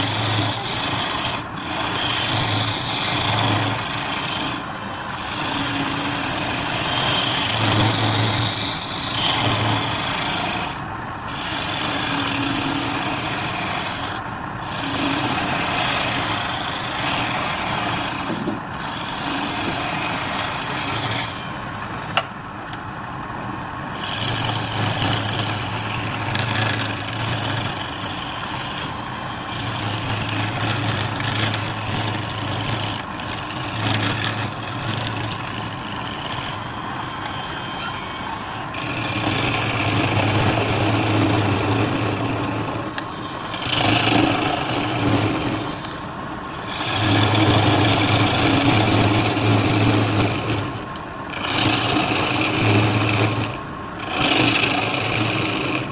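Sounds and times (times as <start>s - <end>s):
turning tool scraping spinning wood: 0.0s - 22.8s, 23.9s - 55.9s
lathe motor hum: 0.0s - 55.9s.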